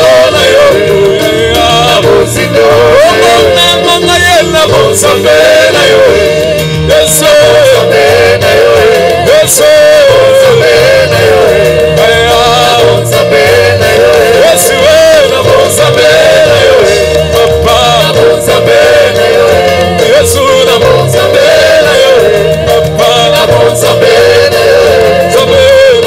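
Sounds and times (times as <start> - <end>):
keyboard bass and drums: 0.0 - 26.0
singers in harmony: 0.0 - 26.0.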